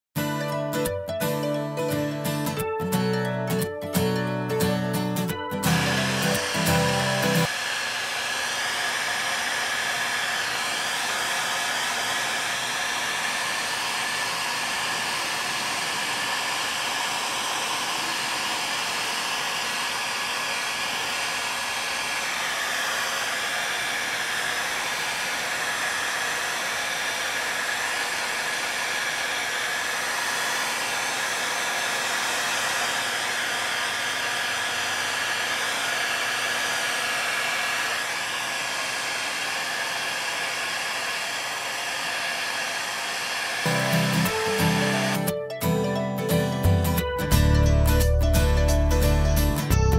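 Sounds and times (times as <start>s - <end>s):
heat gun blowing hot air: 5.2s - 45.4s.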